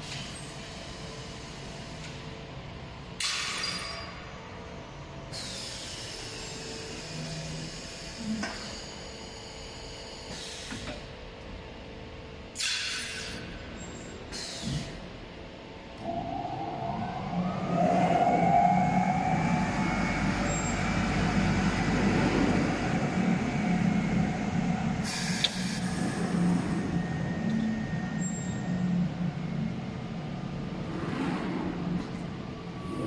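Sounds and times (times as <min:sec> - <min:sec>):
machine motor hum with whine: 0:00.0 - 0:12.4, 0:13.4 - 0:33.0.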